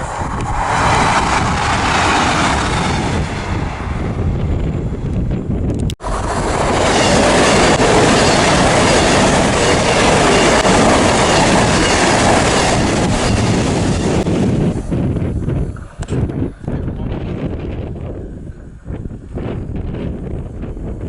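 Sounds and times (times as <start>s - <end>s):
train passing close by: 0.0s - 21.0s.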